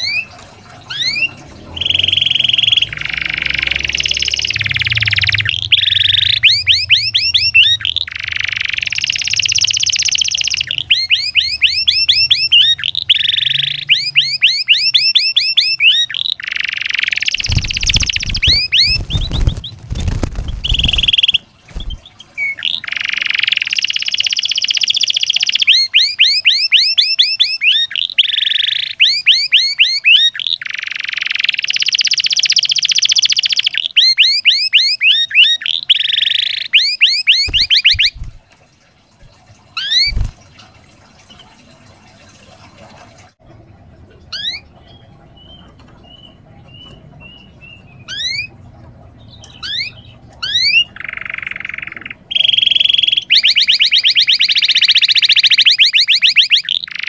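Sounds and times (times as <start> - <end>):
canary singing trills: 0.0 - 38.4, 39.8 - 40.4, 44.2 - 57.0.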